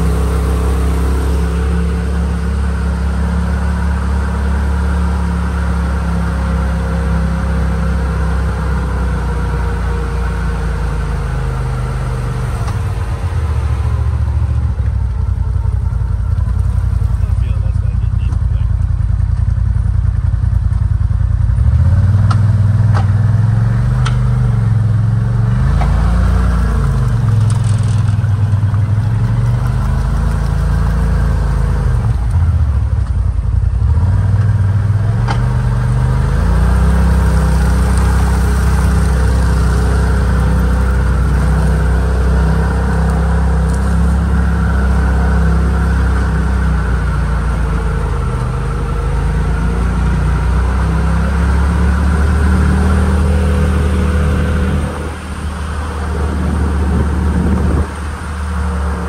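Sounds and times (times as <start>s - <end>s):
riding mower engine running: 0.0s - 59.0s.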